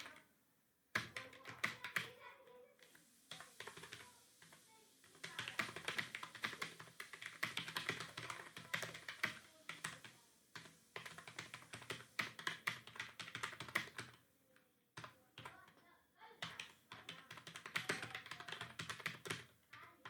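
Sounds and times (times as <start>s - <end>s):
fast typing on keyboard: 0.0s - 0.2s, 0.9s - 14.2s, 15.0s - 15.8s, 16.4s - 20.0s.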